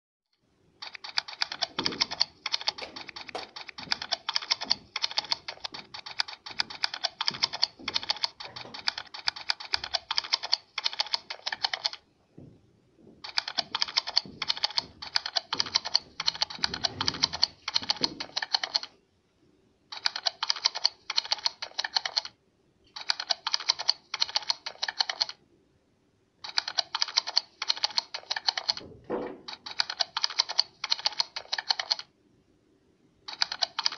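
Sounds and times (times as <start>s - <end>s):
rapid typing on keyboard: 0.8s - 12.0s, 13.2s - 18.9s, 19.9s - 22.4s, 23.0s - 25.4s, 26.4s - 28.9s, 29.5s - 32.1s, 33.3s - 33.9s.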